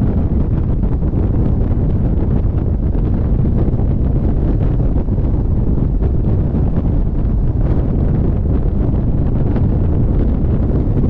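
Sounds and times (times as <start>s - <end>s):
aircraft engine rumble: 0.0s - 11.0s
wind buffeting microphone: 0.0s - 11.0s.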